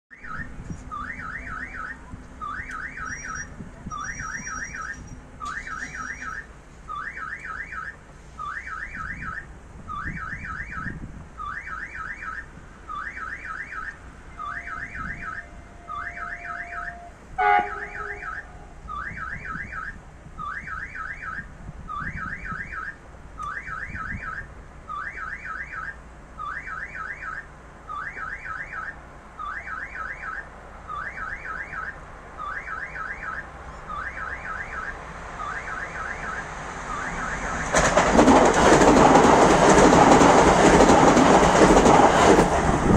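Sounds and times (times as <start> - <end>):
level crossing warning tones: 0.1 - 41.9.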